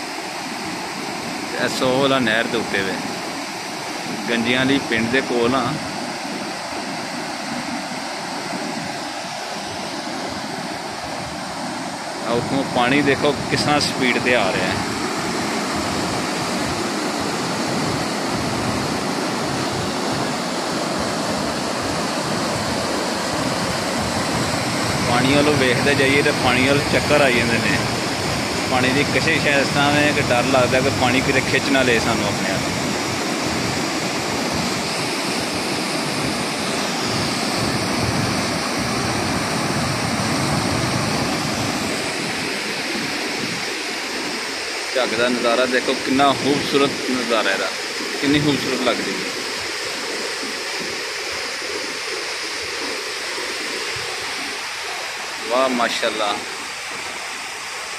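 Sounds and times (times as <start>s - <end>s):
rushing water roar: 0.0s - 57.9s.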